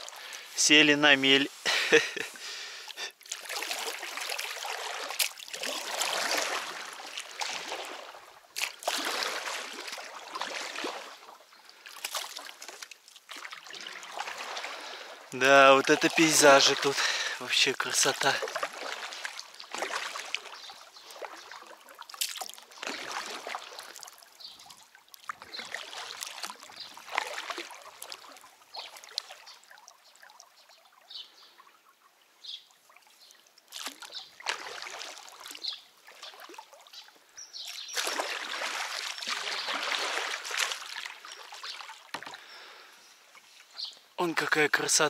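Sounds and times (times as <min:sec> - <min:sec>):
rush of water: 0:00.0 - 0:31.5, 0:32.7 - 0:45.0
oar strokes splashing: 0:00.0 - 0:31.6, 0:32.6 - 0:45.0
water dripping: 0:01.7 - 0:31.7, 0:32.7 - 0:42.7.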